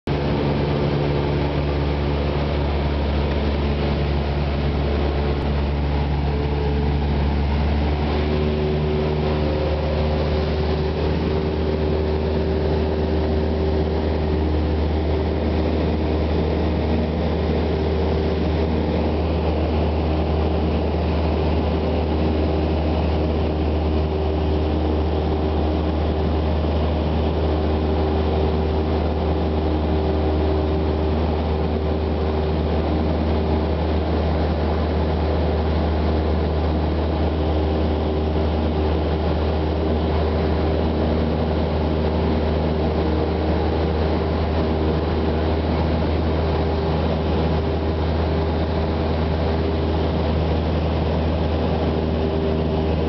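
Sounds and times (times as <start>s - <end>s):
propeller plane engine in cabin: 0.0s - 53.0s.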